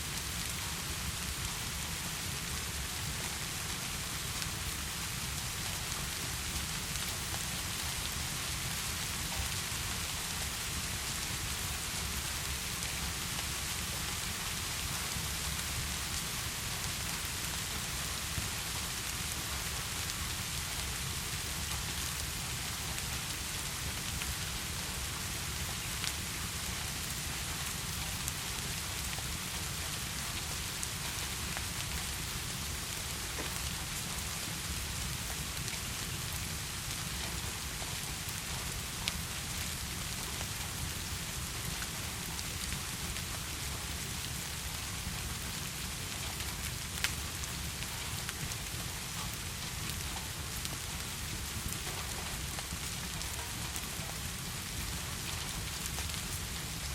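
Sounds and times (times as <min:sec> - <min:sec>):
heavy rain falling: 0:00.1 - 0:56.9.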